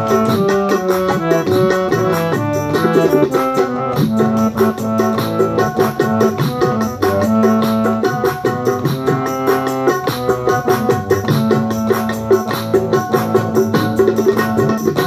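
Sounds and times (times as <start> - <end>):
harmonium melody: 0.0 - 15.0.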